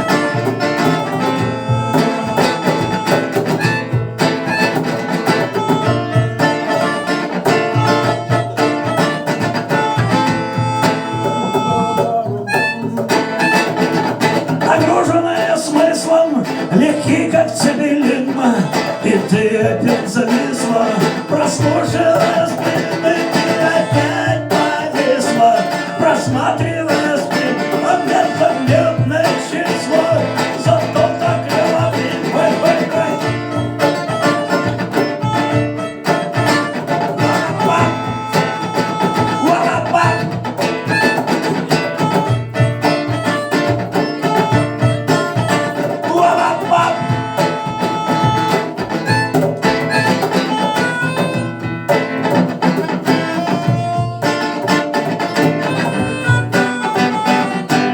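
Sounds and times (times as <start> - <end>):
percussion: 0.0 - 57.9
plucked guitar: 0.0 - 57.9.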